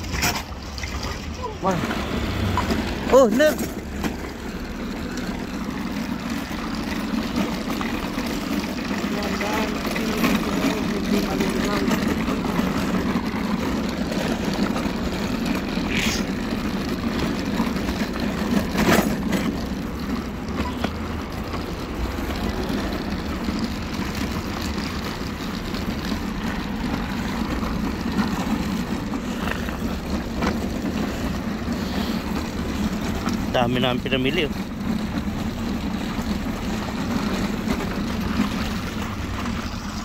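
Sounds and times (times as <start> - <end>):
passing traffic: 0.0 - 40.0
shopping trolley rolling on pavement: 0.0 - 40.0.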